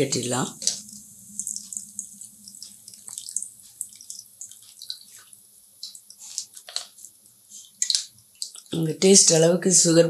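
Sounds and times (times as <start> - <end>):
liquid pouring through strainer: 0.5 - 8.7
splashing and trickling: 0.5 - 8.8.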